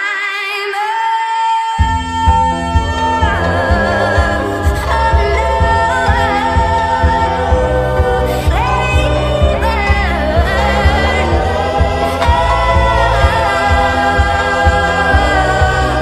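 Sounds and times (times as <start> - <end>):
sped-up pop song vocals: 0.0 - 16.0
pulsing bass: 1.8 - 16.0.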